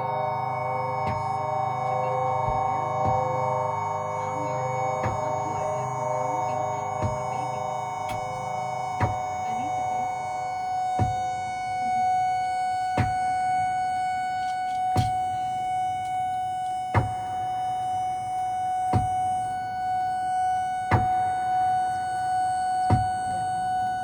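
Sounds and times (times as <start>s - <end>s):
synthesizer drone: 0.0s - 24.0s.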